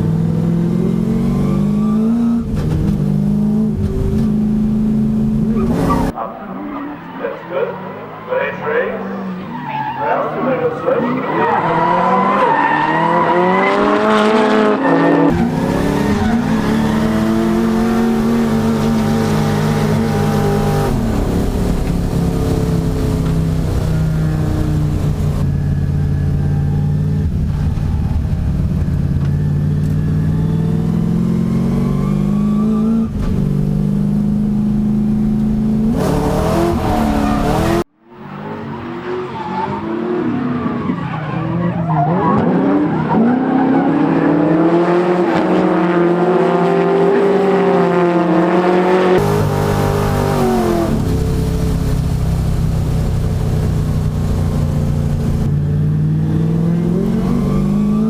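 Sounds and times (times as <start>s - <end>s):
drift car engines revving: 0.0s - 58.0s.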